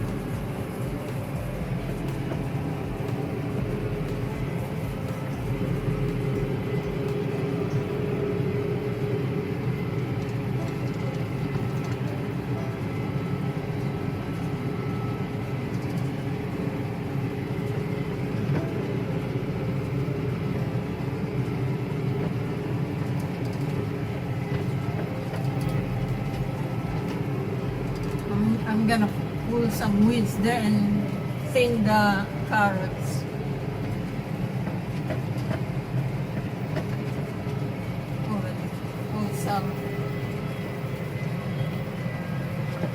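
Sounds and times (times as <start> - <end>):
tractor engine droning: 0.0 - 42.9.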